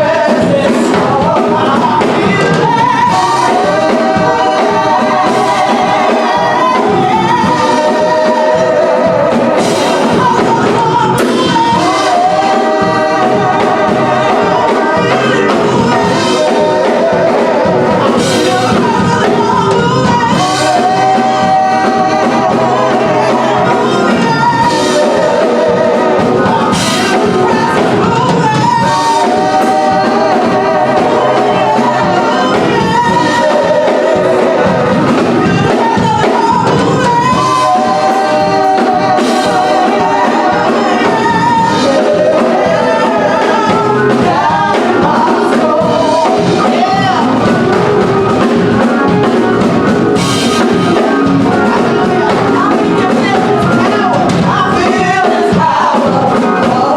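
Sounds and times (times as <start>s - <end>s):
gospel choir with instruments: 0.0s - 56.9s.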